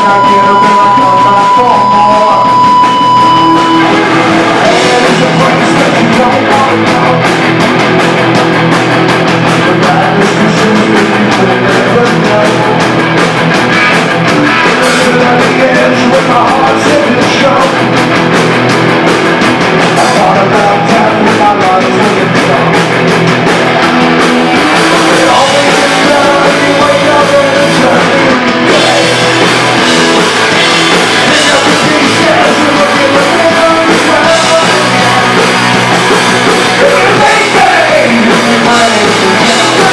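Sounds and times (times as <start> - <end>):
bass guitar: 0.0 - 39.9
distorted electric guitars: 0.0 - 39.9
drum kit with crashing cymbals: 0.0 - 39.9.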